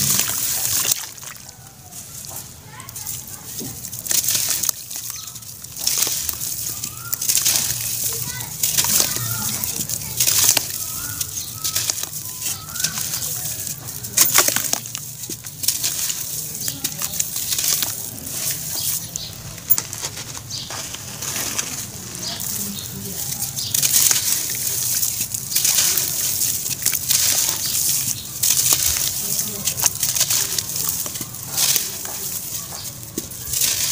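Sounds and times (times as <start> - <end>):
charcoal ash crunching in water: 0.0 - 33.9.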